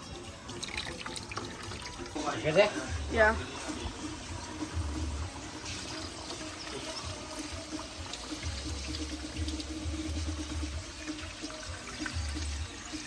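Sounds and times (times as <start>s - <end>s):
liquid trickling and pouring: 0.0s - 13.0s.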